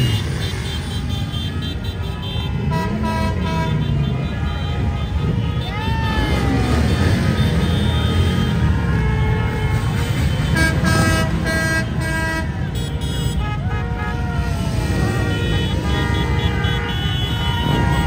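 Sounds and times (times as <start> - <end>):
loud background noise: 0.0 - 18.0
vehicle horns tooting: 0.0 - 18.0.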